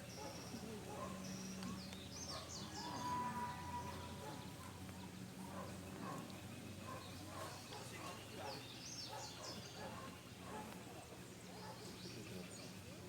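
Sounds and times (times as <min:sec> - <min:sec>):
wild birds chirping: 0:00.0 - 0:12.8
low background murmur: 0:00.0 - 0:13.0.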